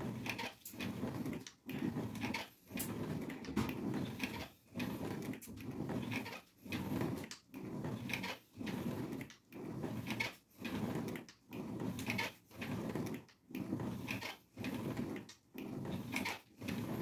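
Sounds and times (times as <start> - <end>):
roller wheel rolling on tiled floor: 0.0 - 17.0.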